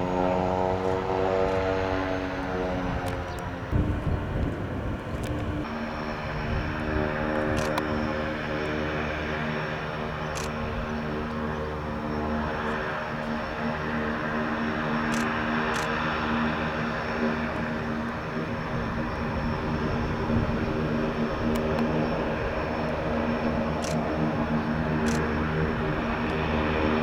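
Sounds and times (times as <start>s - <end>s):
turboprop engine humming: 0.0s - 27.0s.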